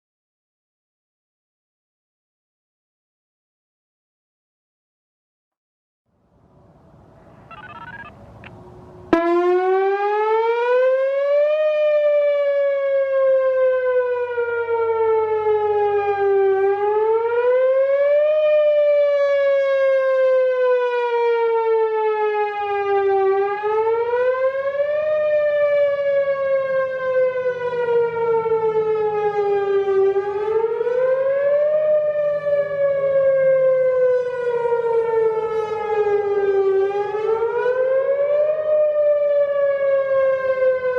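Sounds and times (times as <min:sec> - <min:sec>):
outdoor warning siren whooping: 0:06.8 - 0:40.9.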